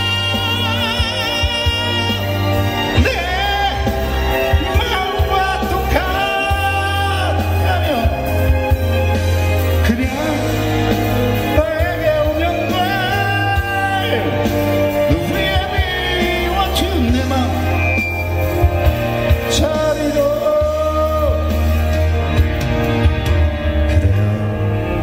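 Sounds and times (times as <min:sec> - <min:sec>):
man singing into microphone: 0:00.0 - 0:08.7, 0:09.8 - 0:18.5, 0:19.4 - 0:21.9, 0:23.9 - 0:25.0
instrumental backing track: 0:00.0 - 0:25.0.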